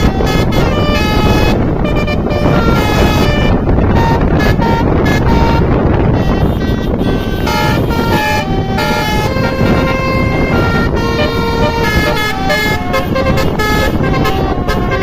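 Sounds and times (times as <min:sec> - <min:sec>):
multi-trumpet air horn melody: 0:00.0 - 0:15.0
steady low rumble: 0:00.0 - 0:15.0.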